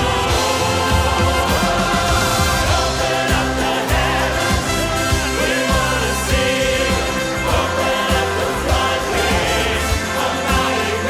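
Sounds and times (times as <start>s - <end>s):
band and orchestra playing: 0.0s - 11.0s
choir singing: 0.0s - 11.0s.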